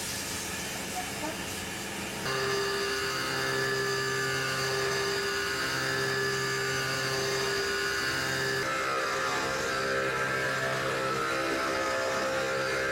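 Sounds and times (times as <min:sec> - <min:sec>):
lathe machine whining: 0:02.2 - 0:12.9.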